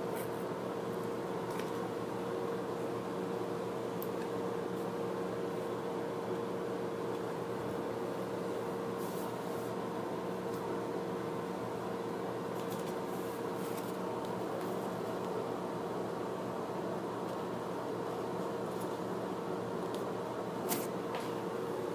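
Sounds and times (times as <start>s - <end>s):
background hum with held tone: 0.0s - 21.9s.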